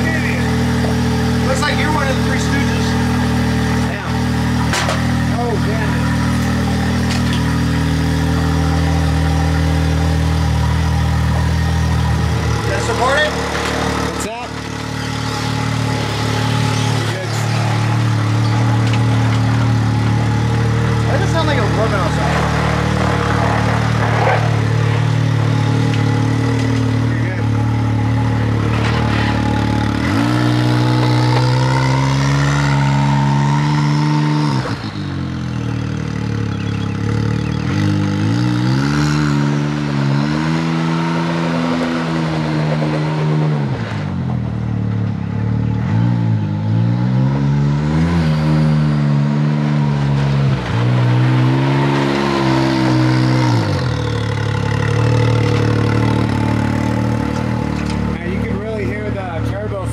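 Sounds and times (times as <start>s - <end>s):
utility vehicle engine revving: 0.0s - 59.9s.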